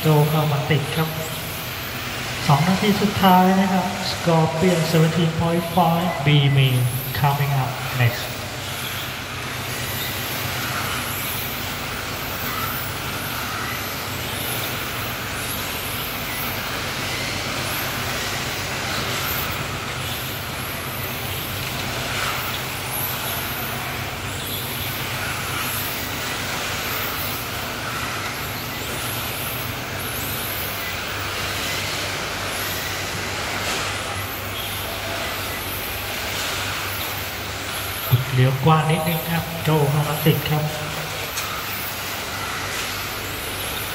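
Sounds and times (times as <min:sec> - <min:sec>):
rc car motors whining: 0:00.0 - 0:38.3.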